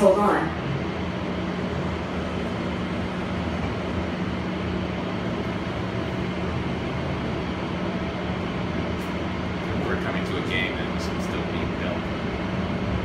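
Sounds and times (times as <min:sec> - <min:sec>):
constant low hum: 0:00.0 - 0:13.0
people-mover car running: 0:00.0 - 0:13.0.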